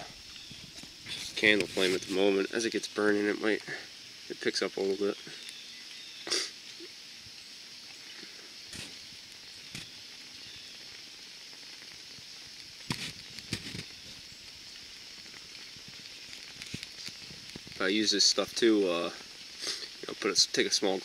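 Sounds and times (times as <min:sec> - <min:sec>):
burning sap crackling and popping: 0:00.0 - 0:21.0
flame hissing: 0:00.0 - 0:21.0.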